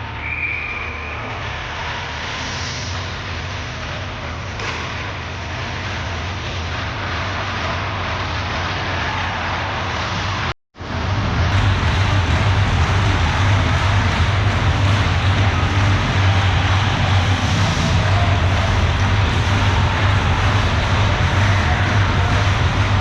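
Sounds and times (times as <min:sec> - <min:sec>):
ice rink noise: 0:00.0 - 0:23.0
low hum: 0:00.0 - 0:23.0.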